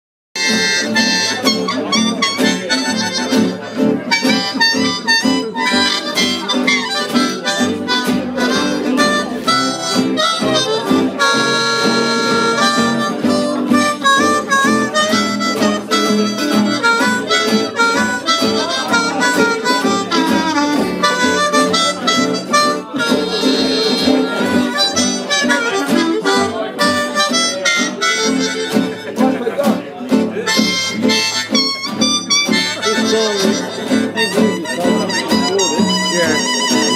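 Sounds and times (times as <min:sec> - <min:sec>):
harmonica melody: 0:00.4 - 0:36.9
plucked double bass: 0:00.4 - 0:36.9
strummed acoustic guitars: 0:00.4 - 0:36.9.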